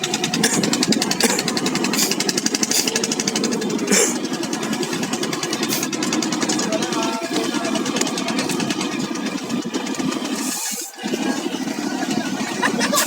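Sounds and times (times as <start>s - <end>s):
boat engine knocking steadily: 0.0s - 13.0s.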